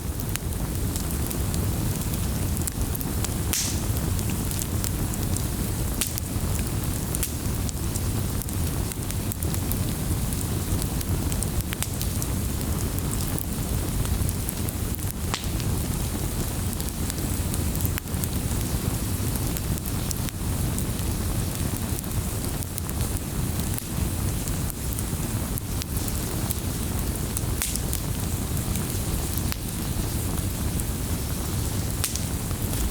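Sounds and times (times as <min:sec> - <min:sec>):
low rumble of flames: 0:00.0 - 0:32.9
wood fire crackling: 0:00.0 - 0:32.9.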